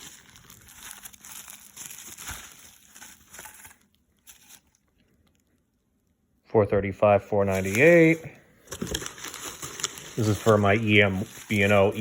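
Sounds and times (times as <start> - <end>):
packaging crinkling and rustling: 0.0 - 5.6, 7.4 - 12.0.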